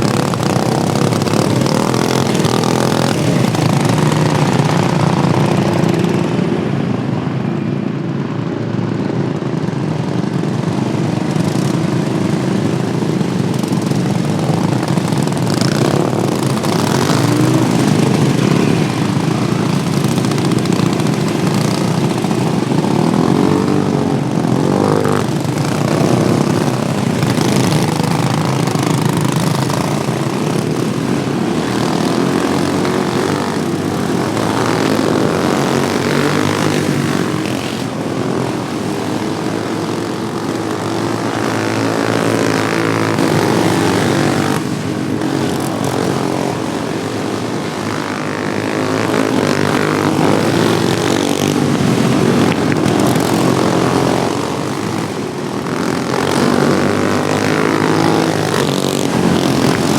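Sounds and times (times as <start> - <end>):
racing lawn mower engines revving: 0.0 - 8.0, 8.6 - 59.9.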